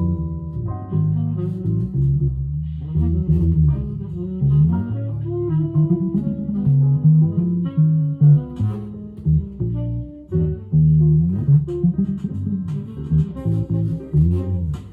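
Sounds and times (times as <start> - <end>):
electric guitar plucked low notes: 0.0 - 14.9.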